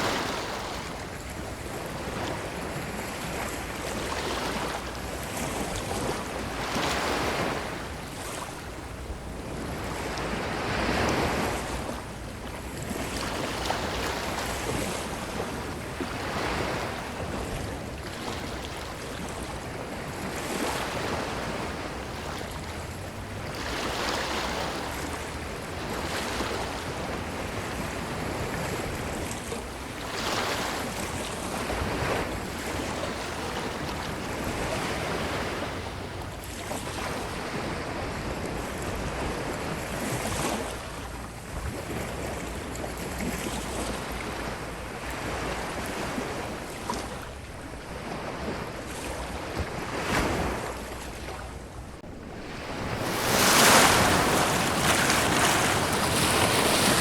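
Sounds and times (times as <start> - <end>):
ocean waves on a beach: 0.0 - 57.0.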